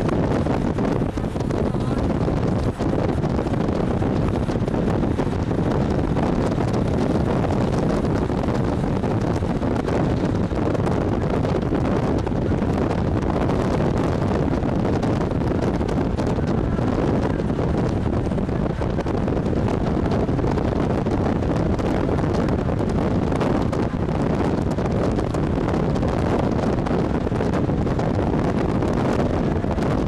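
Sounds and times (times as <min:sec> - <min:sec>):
vehicle running noise: 0:00.0 - 0:30.0
wind noise on microphone: 0:00.0 - 0:30.0.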